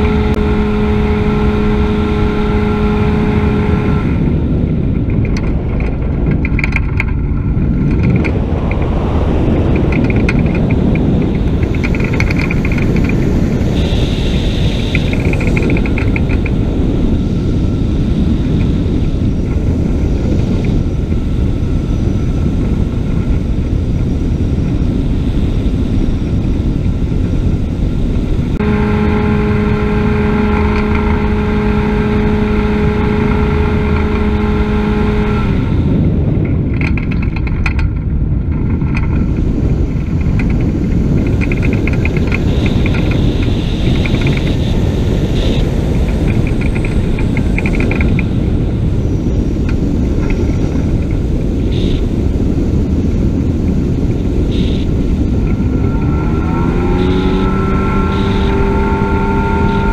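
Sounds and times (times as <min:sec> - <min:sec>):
aircraft engine and propeller: 0:00.0 - 0:59.9
steady hum: 0:00.0 - 0:59.9
wind rushing: 0:00.0 - 0:59.9.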